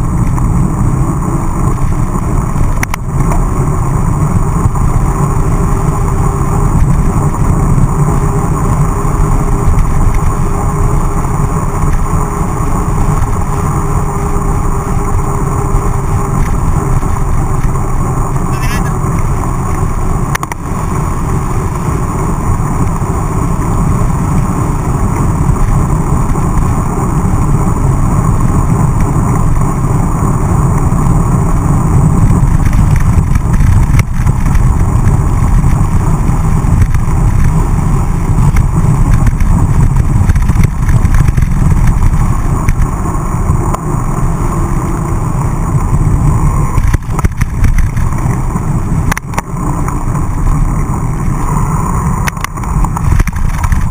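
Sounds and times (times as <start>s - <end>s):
bike rattling: 0.0s - 53.9s
tyres on wet tarmac: 0.0s - 53.9s
wind rumbling over microphone: 0.0s - 53.9s.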